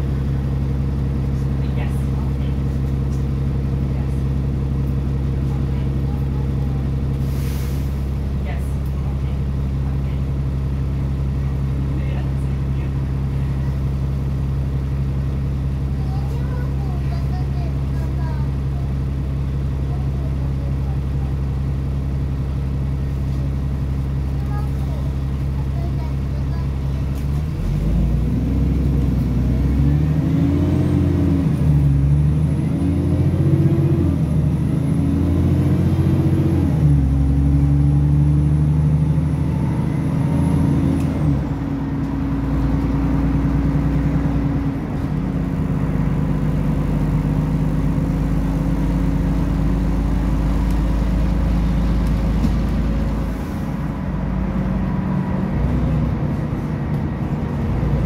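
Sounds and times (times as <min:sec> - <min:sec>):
bus engine accelerating: 0:00.0 - 0:58.0.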